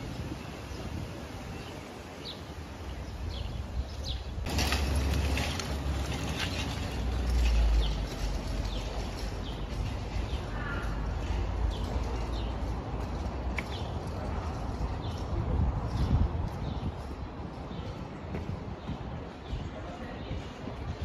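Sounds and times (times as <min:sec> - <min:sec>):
small birds chirping: 0:00.0 - 0:05.7, 0:06.4 - 0:21.0.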